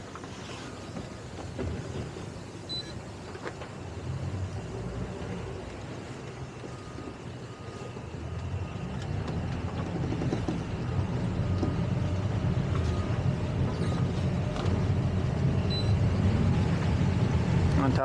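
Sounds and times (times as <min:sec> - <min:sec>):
boat engine low rumble: 0:00.0 - 0:18.0.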